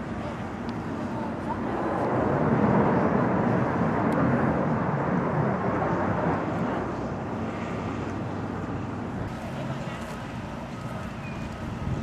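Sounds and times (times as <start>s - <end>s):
jet roar flying past: 0.0s - 12.0s.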